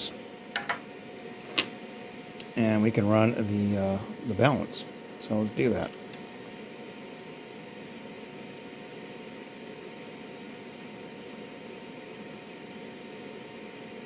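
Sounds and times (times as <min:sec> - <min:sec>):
electronic equipment fan hum and hiss: 0:00.0 - 0:14.0.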